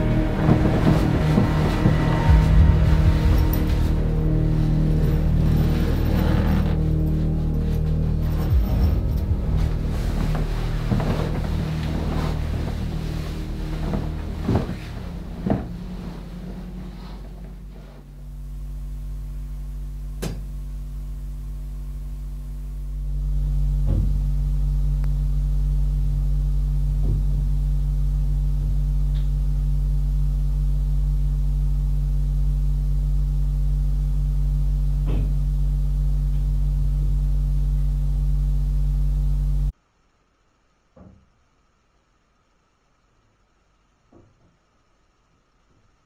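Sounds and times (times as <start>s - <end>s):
low electrical hum: 0.0s - 46.0s.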